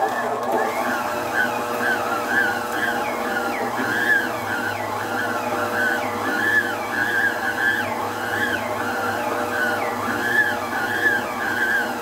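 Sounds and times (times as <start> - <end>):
stand mixer motor whining: 0.0 - 12.0.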